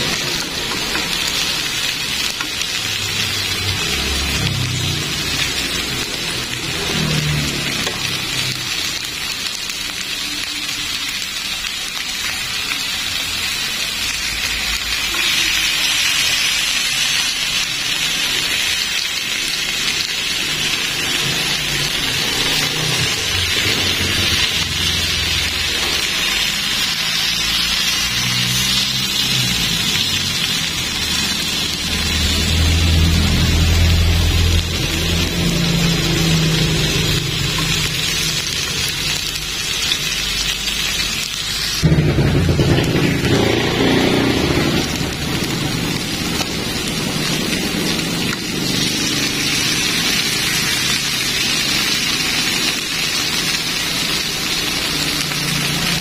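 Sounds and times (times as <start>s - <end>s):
chicken sizzling in grill pan: 0.0s - 56.0s.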